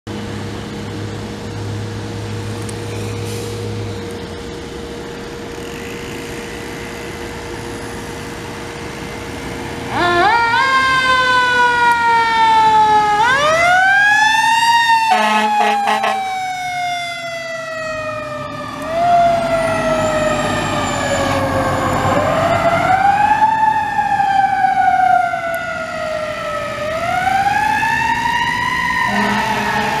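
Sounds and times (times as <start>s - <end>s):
fire engine siren wailing: 5.2s - 30.0s.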